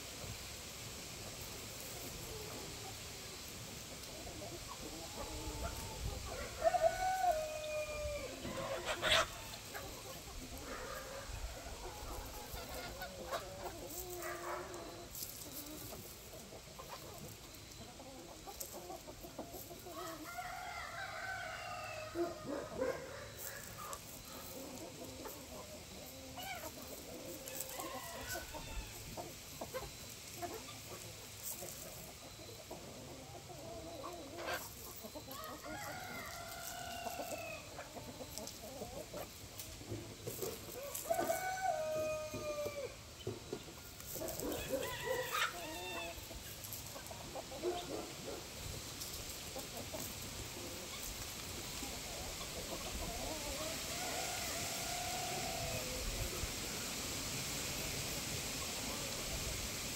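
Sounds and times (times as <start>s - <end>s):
chickens clucking: 0.0s - 59.9s
roosters crowing: 4.5s - 39.4s, 40.2s - 56.9s.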